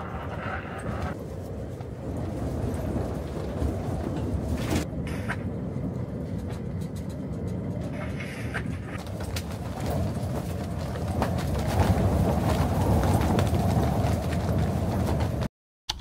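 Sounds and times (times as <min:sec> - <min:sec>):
wind buffeting a tent: 0:00.0 - 0:15.5.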